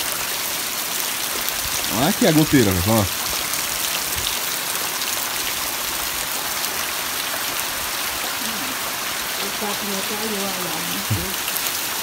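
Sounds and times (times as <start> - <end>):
rain on concrete and water: 0.0 - 12.0.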